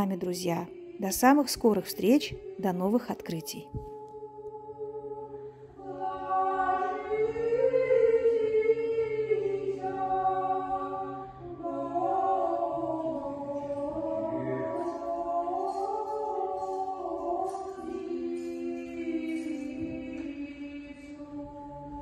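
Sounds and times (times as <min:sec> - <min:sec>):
choir singing a slow chant: 0:00.0 - 0:22.0.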